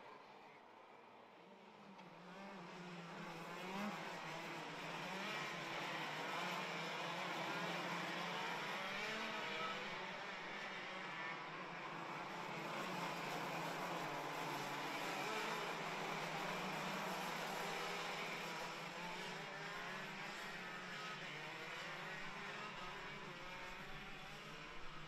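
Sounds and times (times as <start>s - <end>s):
racing kart engines revving: 1.5s - 25.0s.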